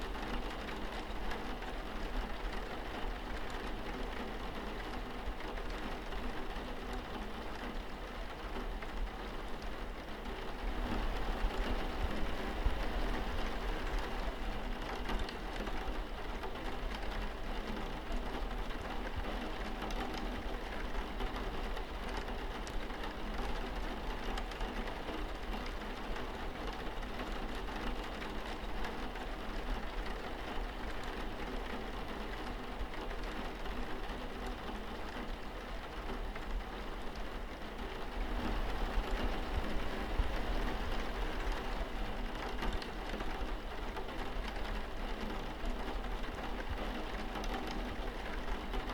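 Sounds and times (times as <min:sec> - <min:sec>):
rain on a window: 0:00.0 - 0:48.9.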